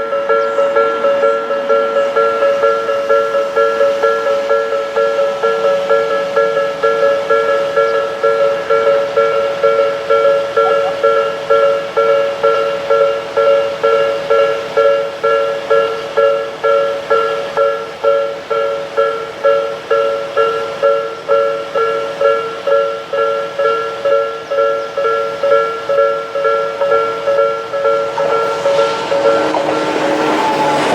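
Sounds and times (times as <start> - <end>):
railroad crossing warning bell: 0.0 - 30.9.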